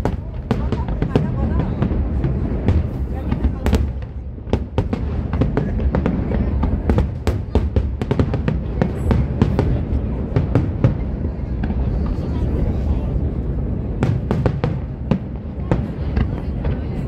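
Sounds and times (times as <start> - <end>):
continuous low rumble: 0.0 - 17.0
fireworks bangs and crackles: 0.0 - 17.0.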